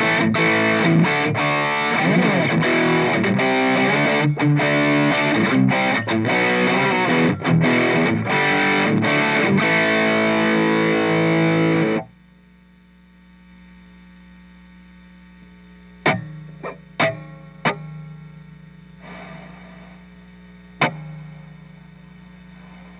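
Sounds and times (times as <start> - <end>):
distorted electric guitar: 0.0 - 12.3, 15.0 - 22.9
amp humming: 0.0 - 22.9.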